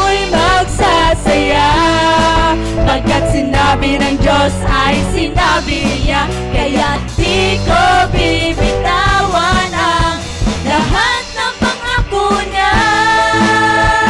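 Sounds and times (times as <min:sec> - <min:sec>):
band with drums: 0:00.0 - 0:14.0.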